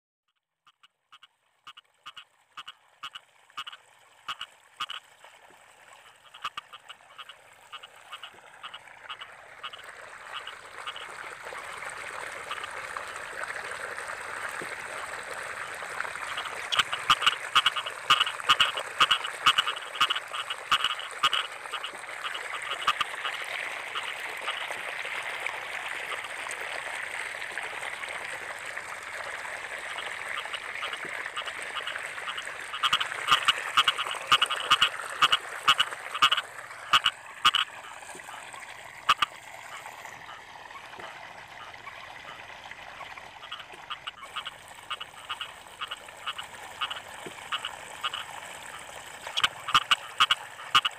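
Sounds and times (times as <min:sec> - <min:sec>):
frogs croaking: 0:00.3 - 0:50.9.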